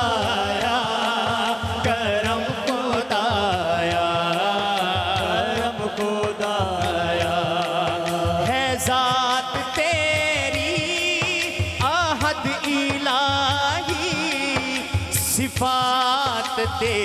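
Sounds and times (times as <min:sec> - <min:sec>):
devotional melody with ornaments: 0:00.0 - 0:17.0.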